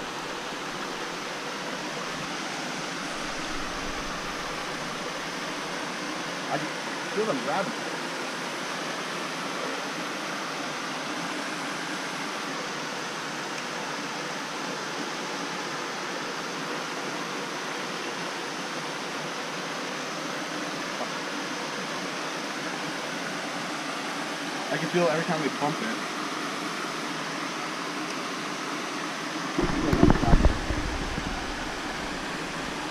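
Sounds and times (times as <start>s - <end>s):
small waterfall rushing over rock: 0.0s - 32.9s.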